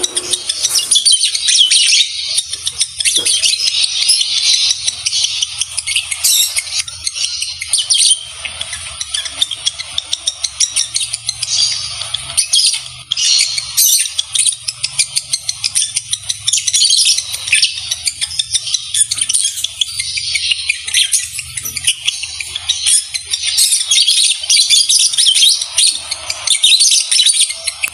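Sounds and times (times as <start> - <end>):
lovebirds chattering: 0.0 - 27.9.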